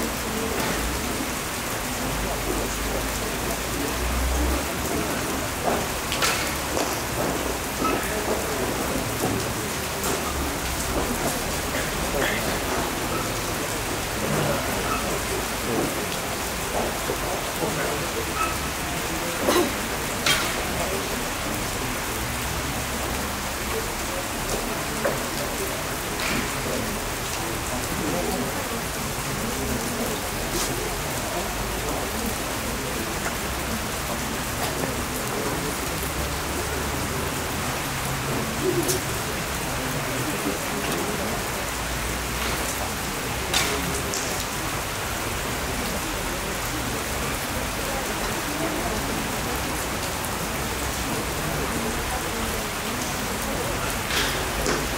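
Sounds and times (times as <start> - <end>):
rain pattering: 0.0 - 54.9.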